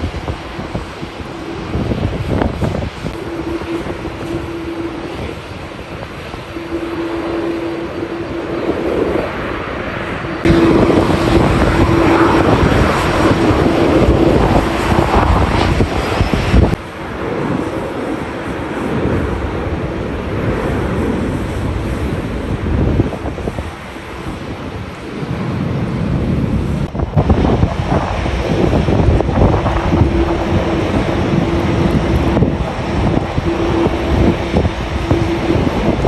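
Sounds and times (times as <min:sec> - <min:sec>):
jet engines roaring: 0:00.0 - 0:36.0
wind buffeting microphone: 0:00.0 - 0:36.0.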